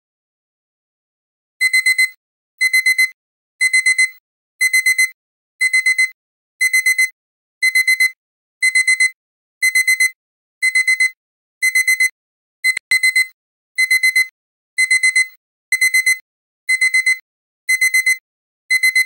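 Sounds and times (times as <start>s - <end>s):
alarm clock beeping: 1.6s - 19.0s.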